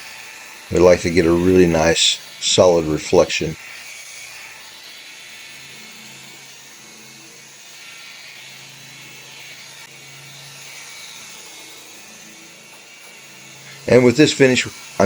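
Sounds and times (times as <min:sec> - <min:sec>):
buffer pad hissing on panel: 0:00.0 - 0:15.0
rotary buffer motor whine: 0:00.0 - 0:15.0.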